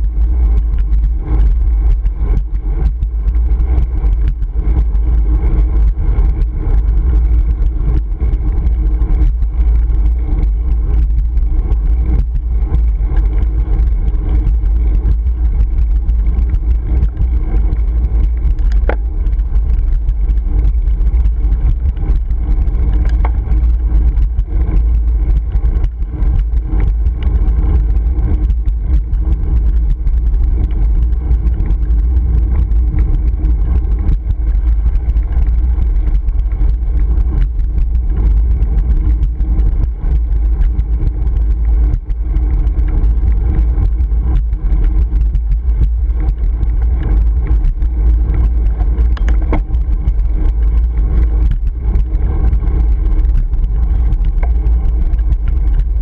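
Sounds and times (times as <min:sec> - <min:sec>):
wind buffeting camera: 0:00.0 - 0:56.0.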